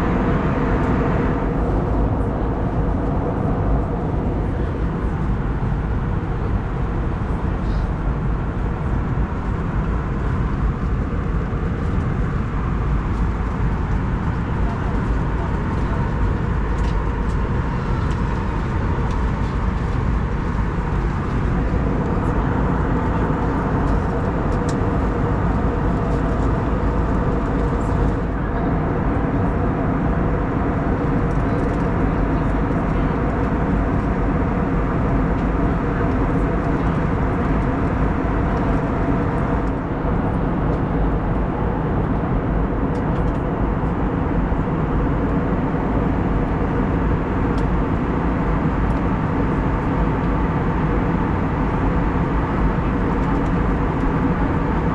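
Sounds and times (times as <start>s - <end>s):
aircraft engine drone: 0.0s - 54.9s
airflow over aircraft fuselage: 0.0s - 54.9s
low steady hums: 0.0s - 54.9s.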